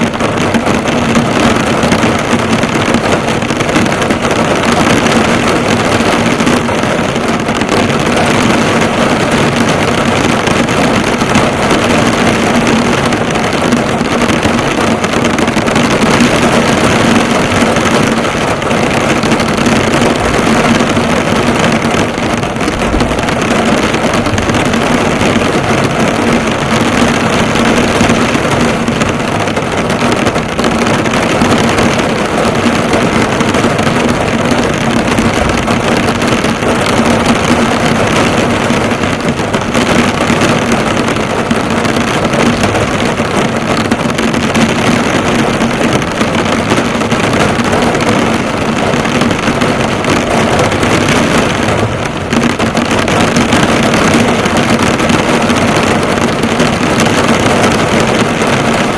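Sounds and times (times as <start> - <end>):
heavy rain on a car: 0.0 - 58.9.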